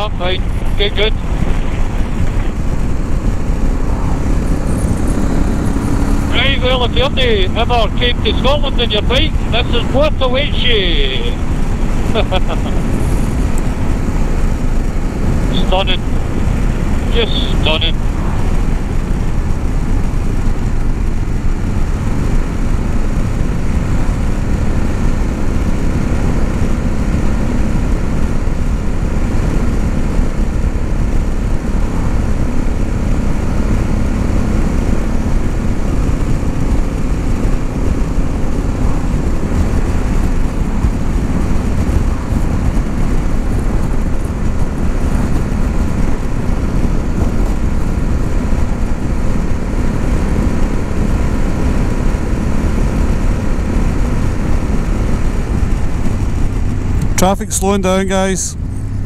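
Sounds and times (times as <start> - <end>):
wind rush on microphone: 0.0 - 57.2, 58.6 - 59.0
motorcycle engine drone: 0.0 - 59.0.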